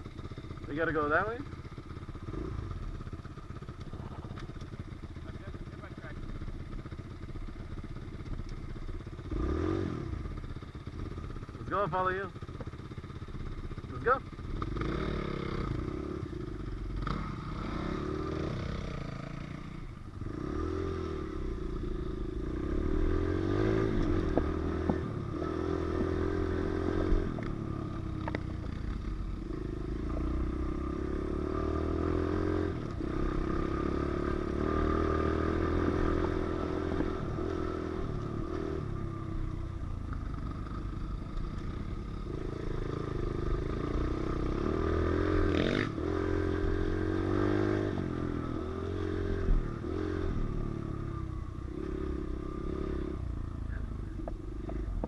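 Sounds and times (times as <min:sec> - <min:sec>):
motorbike engine revving: 0:00.6 - 0:06.9, 0:09.1 - 0:12.5, 0:13.8 - 0:55.0.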